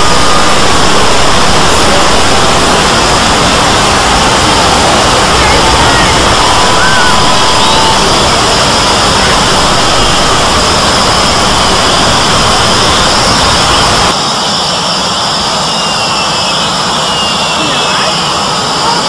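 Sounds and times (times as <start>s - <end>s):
many soundtracks overlapping: 0.0s - 19.0s.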